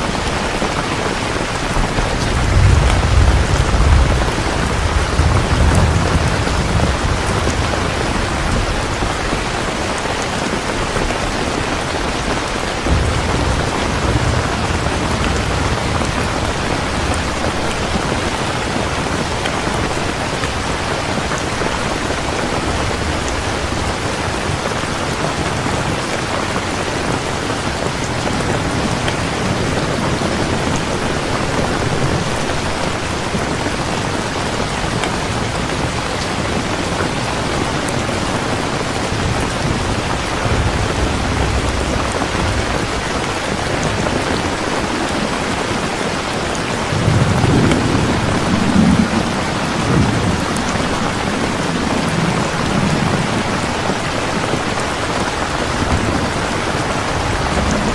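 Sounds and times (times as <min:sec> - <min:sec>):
thunder rolling: 0:00.0 - 0:33.9, 0:34.8 - 0:57.9
heavy rain falling: 0:00.0 - 0:57.9.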